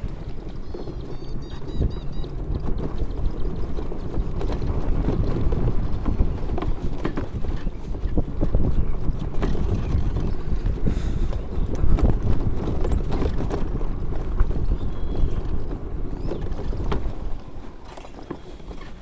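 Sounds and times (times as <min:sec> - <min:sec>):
knocks and rattles: 0:00.0 - 0:19.0
wind rumbling on microphone: 0:00.0 - 0:19.0.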